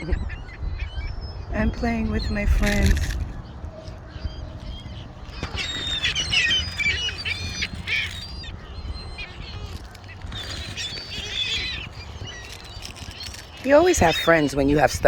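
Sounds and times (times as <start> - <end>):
steady low rumble: 0.0 - 14.0
flock of birds calling: 0.0 - 15.0.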